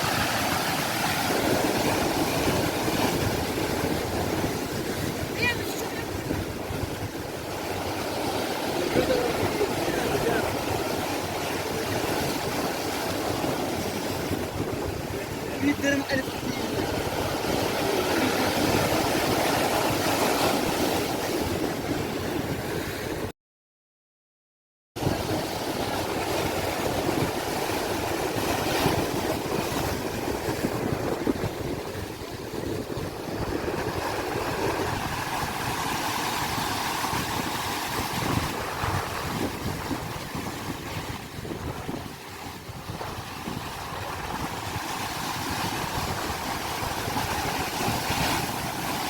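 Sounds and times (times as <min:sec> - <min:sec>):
sea waves washing: 0:00.0 - 0:23.3, 0:25.0 - 0:49.0
wind on microphone: 0:00.0 - 0:23.3, 0:25.0 - 0:49.0.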